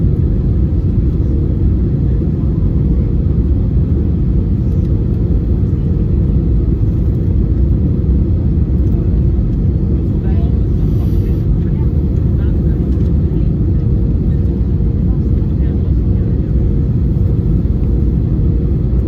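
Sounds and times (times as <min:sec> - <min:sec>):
aircraft cabin rumble: 0:00.0 - 0:19.0.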